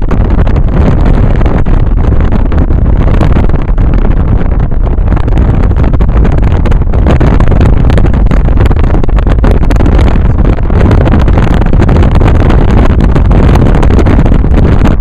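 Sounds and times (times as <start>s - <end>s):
car road and engine noise: 0.0s - 15.0s
wind buffeting microphone: 0.0s - 15.0s.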